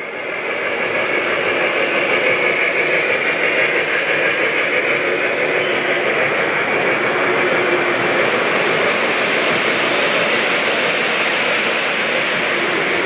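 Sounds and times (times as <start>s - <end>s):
model train wheels rumbling: 0.0s - 13.0s.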